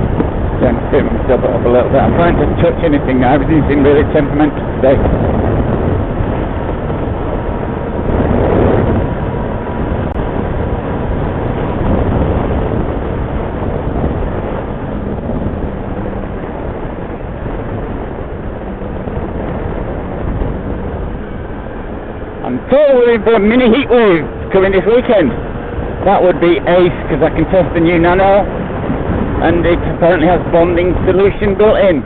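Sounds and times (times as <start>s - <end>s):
motorcycle engine running: 0.0s - 29.9s
wind and road rush: 0.0s - 32.0s.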